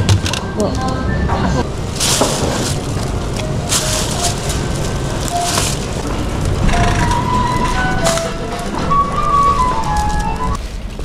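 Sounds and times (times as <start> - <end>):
shop background noise: 0.0 - 11.0
plastic bag rustling: 1.6 - 11.0.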